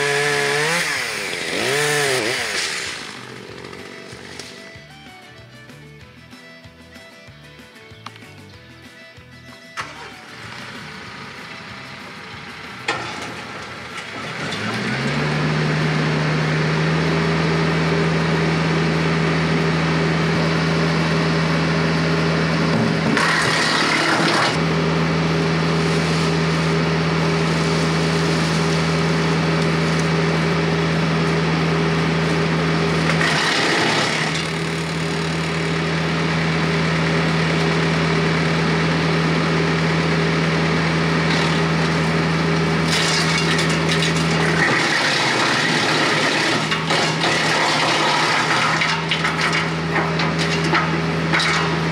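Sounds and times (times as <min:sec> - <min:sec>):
wood chipper crackling and splintering: 0:00.0 - 0:04.9, 0:09.8 - 0:51.9
tractor diesel engine running: 0:00.0 - 0:51.9.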